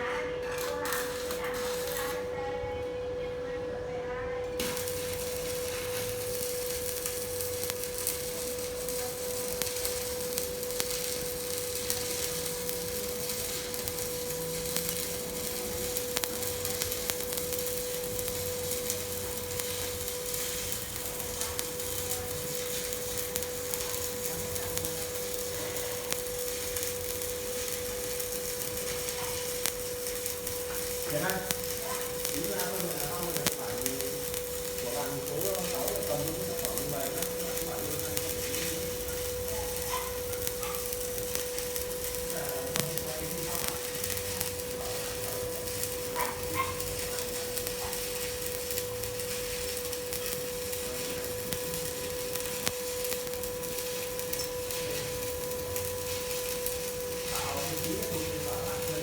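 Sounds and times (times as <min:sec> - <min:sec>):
welding arc crackling hiss: 0:00.0 - 0:02.8, 0:04.5 - 0:59.0.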